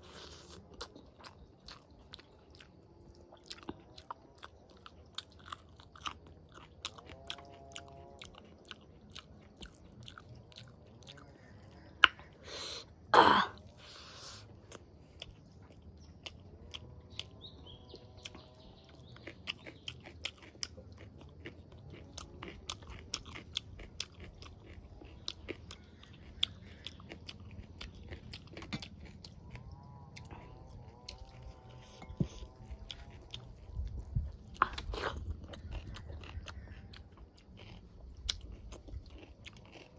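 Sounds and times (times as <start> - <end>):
person chewing and lip-smacking: 0.0 - 39.9.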